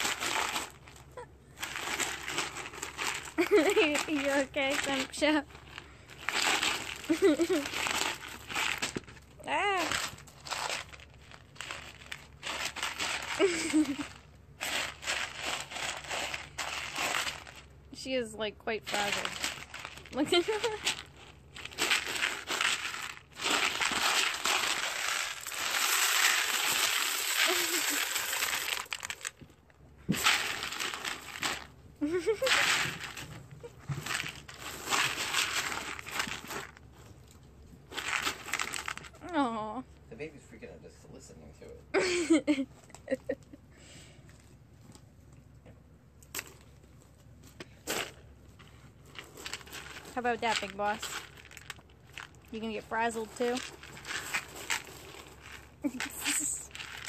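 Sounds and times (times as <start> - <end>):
dry beans rattling in plastic bowl: 0.0 - 36.9, 37.9 - 39.2, 47.9 - 57.0.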